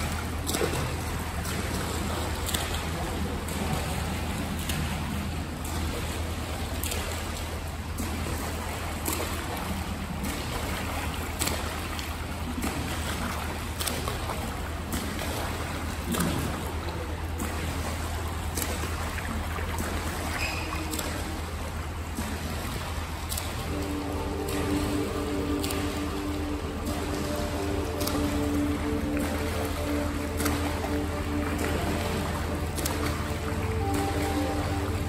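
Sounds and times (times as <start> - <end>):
low hum: 0.0 - 35.0
rushing water: 0.0 - 35.0
swimmer's strokes splashing: 0.0 - 35.0.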